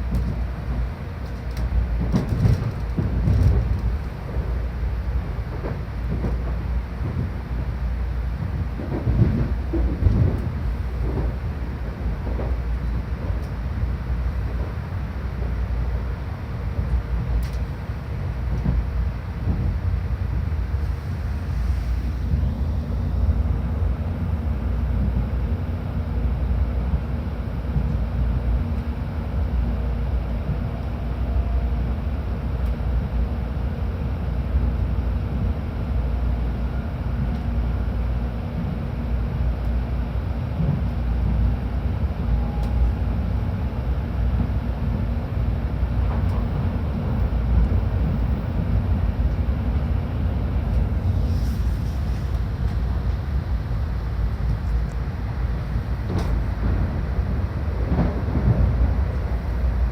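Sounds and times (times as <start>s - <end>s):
train cabin low rumble: 0.0s - 59.9s.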